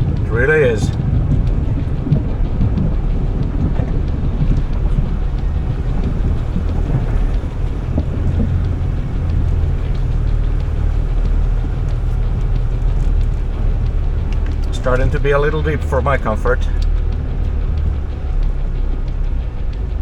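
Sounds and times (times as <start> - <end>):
engine running low: 0.0 - 20.0
water washing against vehicle: 0.0 - 20.0.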